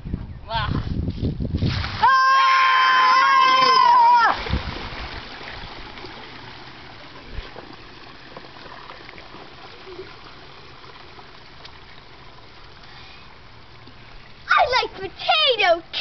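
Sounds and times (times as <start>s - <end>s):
running water rushing: 1.6s - 16.0s.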